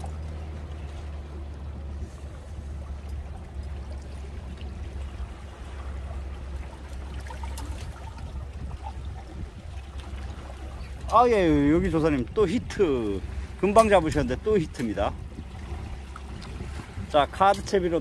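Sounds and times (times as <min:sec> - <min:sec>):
seawater lapping among boulders: 0:00.0 - 0:18.0
steady low rumble: 0:00.0 - 0:18.0.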